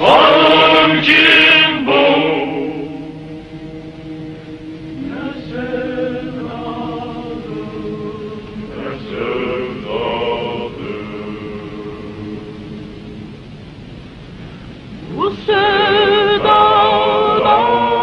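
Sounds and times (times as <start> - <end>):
choir chanting slowly: 0.0 - 13.7, 14.9 - 18.0.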